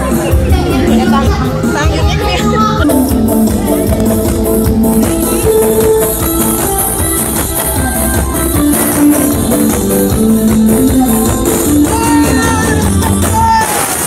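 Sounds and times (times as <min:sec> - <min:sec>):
lively folk music: 0:00.0 - 0:14.0.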